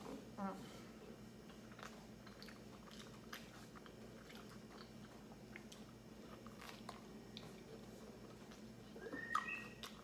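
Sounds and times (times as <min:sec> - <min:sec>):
person chewing pizza: 0:00.0 - 0:10.0.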